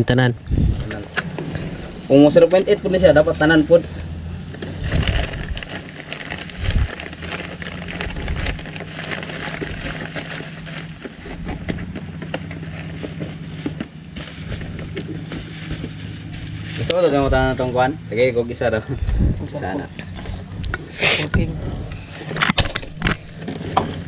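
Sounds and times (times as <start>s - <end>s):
low engine hum: 0.4s - 22.4s.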